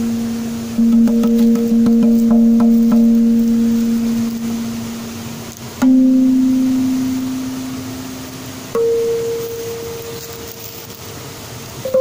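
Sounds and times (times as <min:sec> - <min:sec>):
slow ringing notes: 0:00.0 - 0:12.0.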